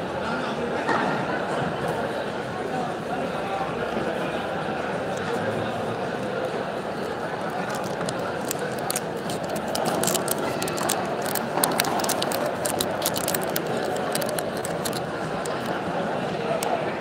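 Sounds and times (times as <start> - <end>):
crowd chatter: 0.0 - 17.0.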